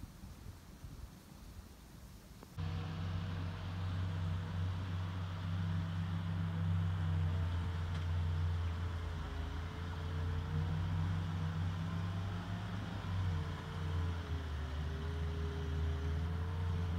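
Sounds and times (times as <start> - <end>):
distant motorboat engine droning: 2.6 - 16.9.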